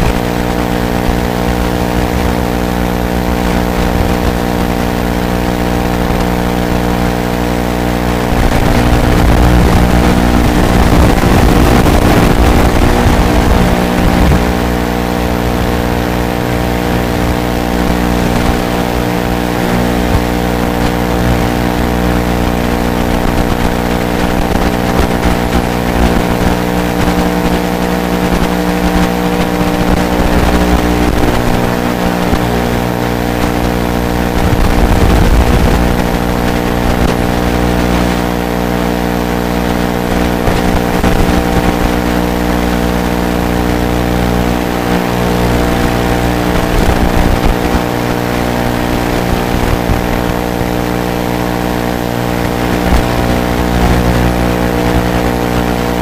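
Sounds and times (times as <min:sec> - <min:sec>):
quadcopter buzzing hum: 0:00.0 - 0:56.0.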